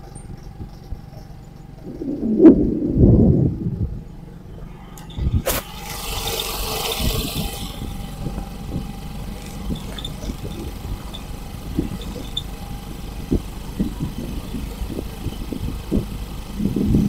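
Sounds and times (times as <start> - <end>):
vehicle engine rumbling: 0.0 - 17.0
irregular low thumps: 1.8 - 5.5, 7.0 - 17.0.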